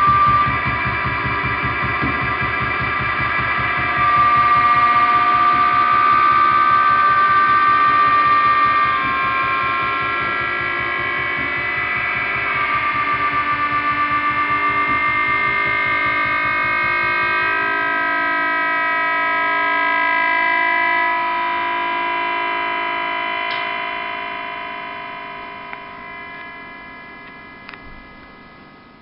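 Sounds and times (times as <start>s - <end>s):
throbbing guitar and keyboard drone: 0.0s - 28.5s.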